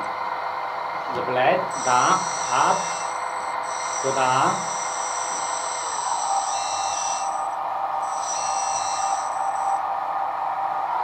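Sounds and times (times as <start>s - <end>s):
electric hydraulic pump humming: 0.0s - 11.0s
high hydraulic whine: 0.0s - 11.0s
simulated heavy machine engine: 0.0s - 11.0s.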